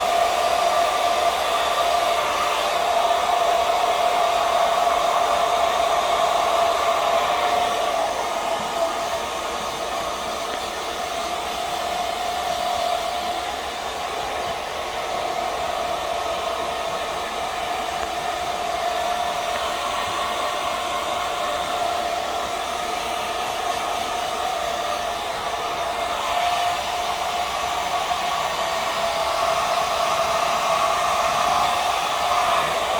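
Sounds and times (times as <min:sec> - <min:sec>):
hair dryer running: 0:00.0 - 0:32.9.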